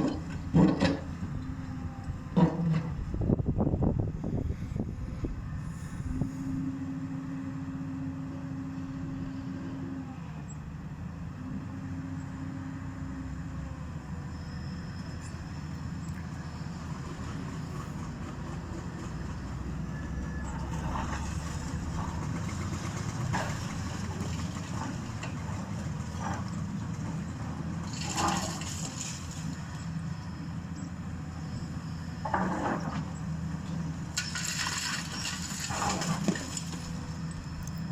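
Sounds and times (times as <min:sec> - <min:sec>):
heavy machine engine running: 0:00.0 - 0:37.9.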